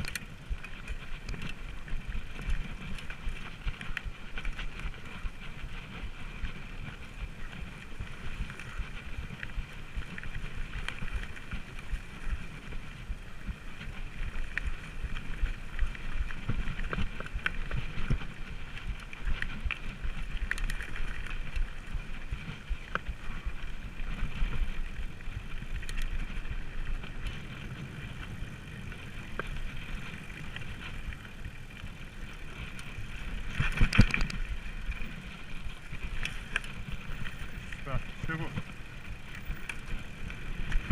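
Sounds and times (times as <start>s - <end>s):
bike rattles and clicks: 0.0s - 40.9s
mountain bike ride rumble: 0.0s - 40.9s.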